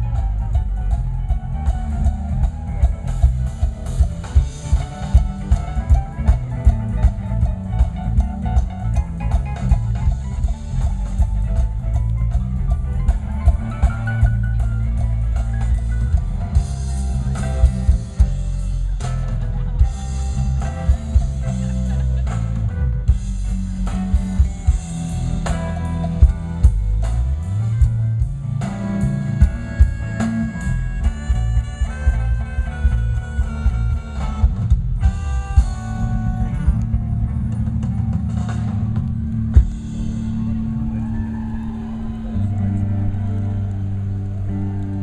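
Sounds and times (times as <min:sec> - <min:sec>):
live band playing: 0:00.0 - 0:45.0.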